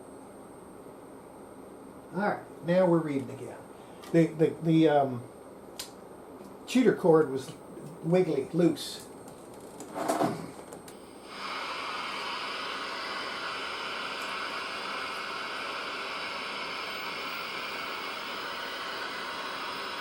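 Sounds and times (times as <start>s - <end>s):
television static hiss: 2.0s - 20.0s.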